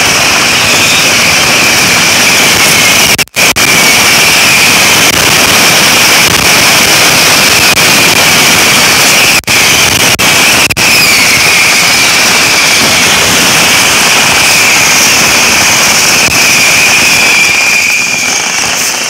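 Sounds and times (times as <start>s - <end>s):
steady high whistle: 0.0s - 5.1s, 8.7s - 19.0s
fireworks hissing and crackling: 0.0s - 19.0s.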